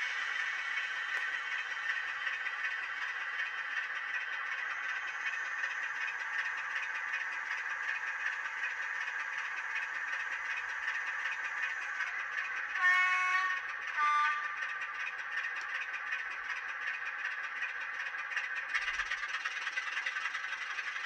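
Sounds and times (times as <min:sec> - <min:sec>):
diesel engine through small speaker: 0:00.0 - 0:21.0.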